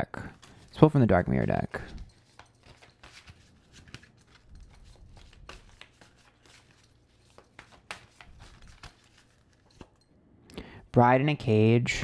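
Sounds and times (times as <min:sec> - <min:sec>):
cards being shuffled: 0:00.3 - 0:10.0.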